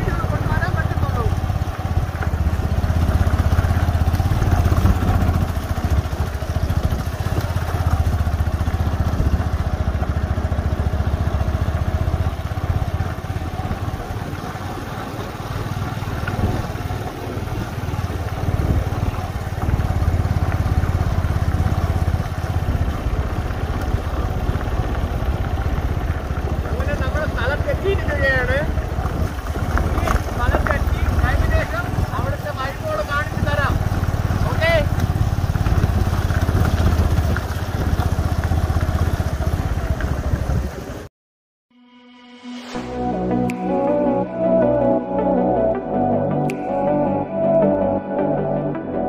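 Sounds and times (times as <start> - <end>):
scooter engine running: 0.0 - 41.1.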